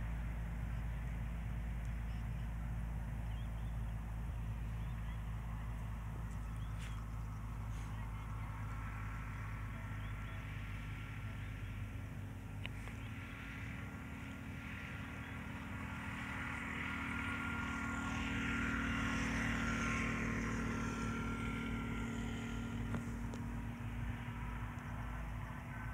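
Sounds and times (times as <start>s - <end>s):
low hum: 0.0s - 25.9s
passing vehicle engine: 0.0s - 25.9s.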